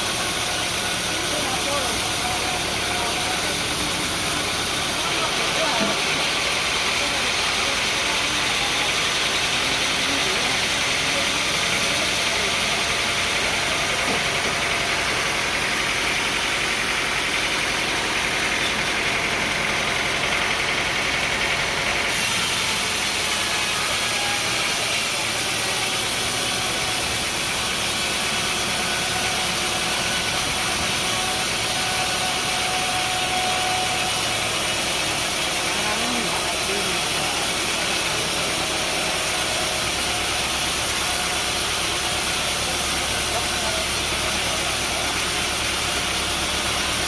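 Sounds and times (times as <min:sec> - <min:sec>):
engine running: 0:00.0 - 0:47.0.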